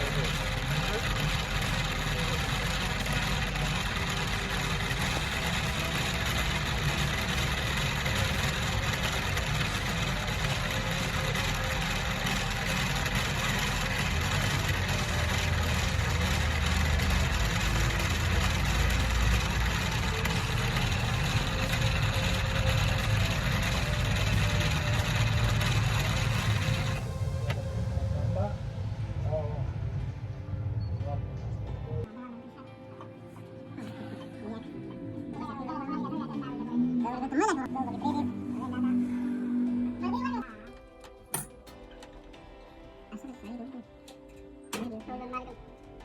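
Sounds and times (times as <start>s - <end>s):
machine humming: 0.0s - 32.1s, 33.5s - 42.2s.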